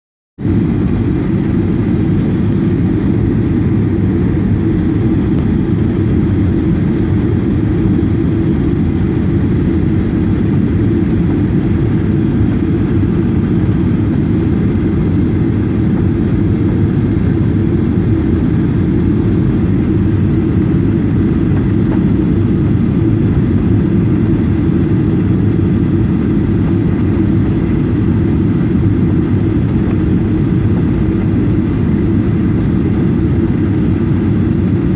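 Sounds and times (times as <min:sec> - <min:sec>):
airplane cabin engine drone: 0:00.4 - 0:34.9.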